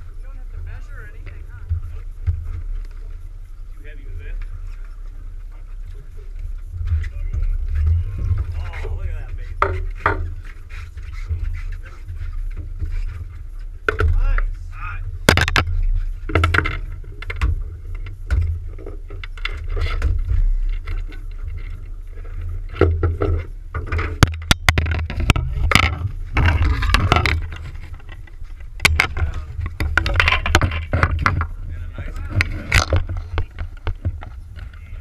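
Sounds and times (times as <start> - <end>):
boat engine low rumble: 0.0 - 35.0
fishing gear clicks and rattles: 0.0 - 35.0.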